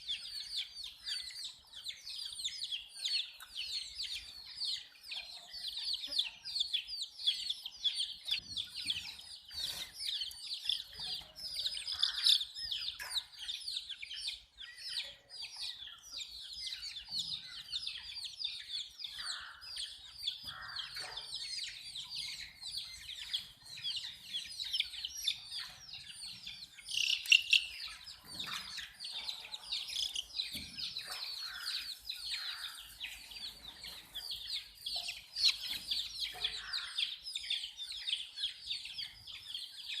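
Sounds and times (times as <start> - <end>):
baby chicks peeping: 0.0 - 40.0.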